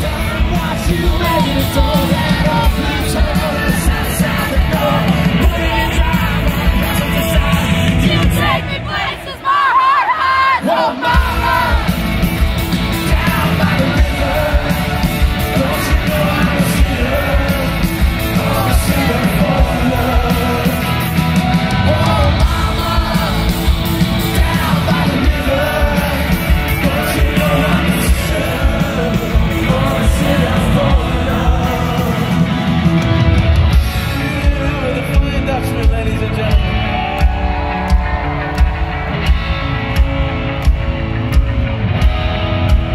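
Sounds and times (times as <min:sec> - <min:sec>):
electric guitars: 0:00.0 - 0:09.0, 0:10.9 - 0:42.9
steady drum beat: 0:00.0 - 0:09.2, 0:10.9 - 0:42.9
man singing and shouting: 0:00.0 - 0:12.1, 0:12.7 - 0:33.2, 0:33.9 - 0:37.8.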